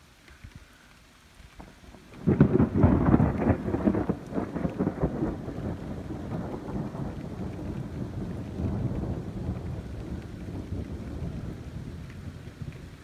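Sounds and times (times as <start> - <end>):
thunderclap rumbling: 1.6 - 13.0.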